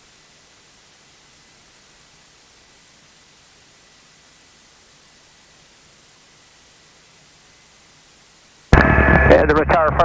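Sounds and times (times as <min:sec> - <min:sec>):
faint thin whine: 0:00.0 - 0:10.0
static hiss: 0:00.0 - 0:10.0.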